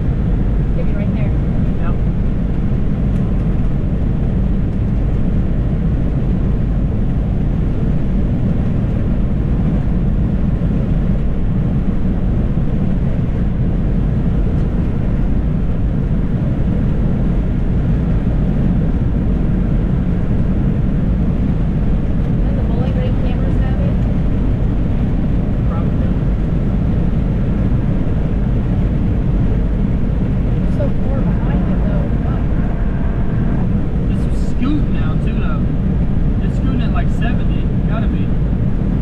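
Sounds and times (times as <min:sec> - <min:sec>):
car road and engine noise: 0:00.0 - 0:39.0.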